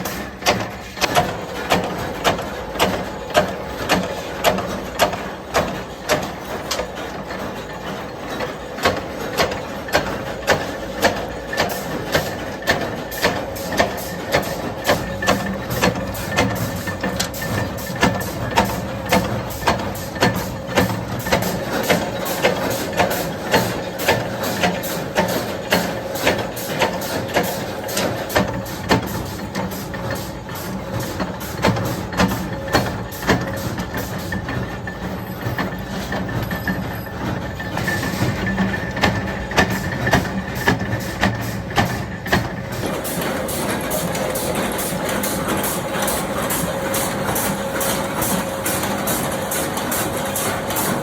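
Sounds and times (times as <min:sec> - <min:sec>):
machine hum: 0:05.2 - 0:51.0.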